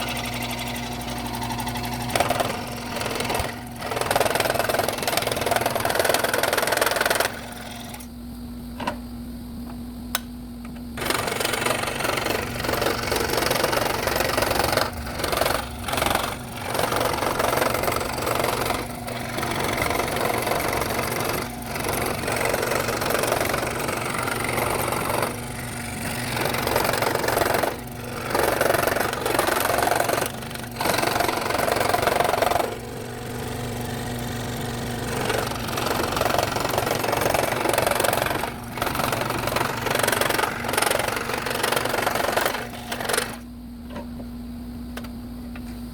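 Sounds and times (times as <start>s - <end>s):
saw motor hum: 0.0s - 8.1s, 11.0s - 43.5s
scroll saw blade cutting wood: 0.0s - 8.1s, 11.0s - 43.4s.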